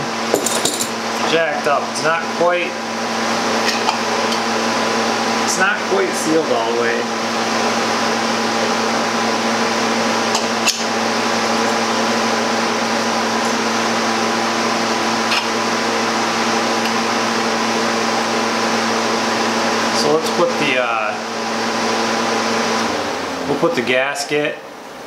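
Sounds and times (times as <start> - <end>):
chiller machine hum: 0.0 - 25.0.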